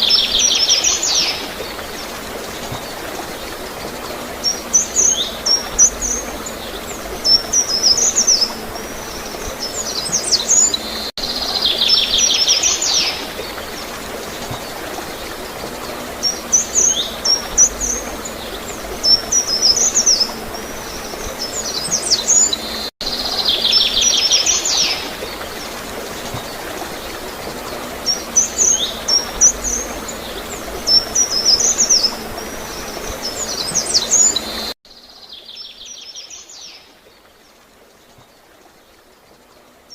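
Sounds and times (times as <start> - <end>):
flowing water gurgle: 0.0 - 39.9
songbird chirping: 0.0 - 39.9.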